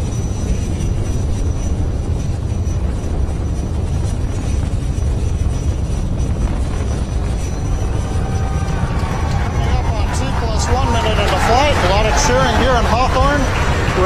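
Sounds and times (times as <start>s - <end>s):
rocket engines deep rumble: 0.0s - 14.0s.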